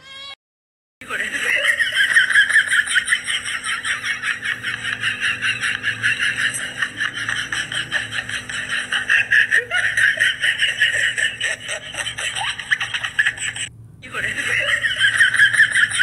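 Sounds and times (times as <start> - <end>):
high-pitched laughter: 1.0 - 16.0.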